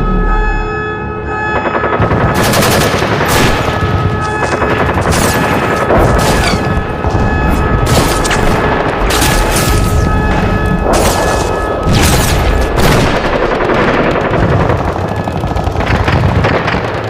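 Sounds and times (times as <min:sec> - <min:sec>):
rapid automatic gunfire: 0:01.8 - 0:17.0.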